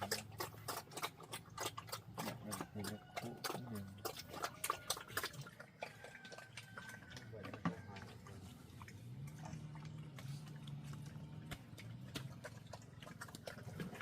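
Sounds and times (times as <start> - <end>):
animal low vocal sound: 0.0 - 14.0
chewing-like clicks: 0.0 - 14.0.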